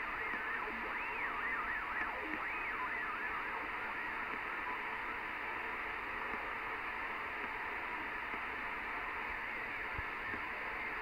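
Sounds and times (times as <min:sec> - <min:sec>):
faint wavering whine: 0:00.0 - 0:11.0
radio static hiss: 0:00.0 - 0:11.0.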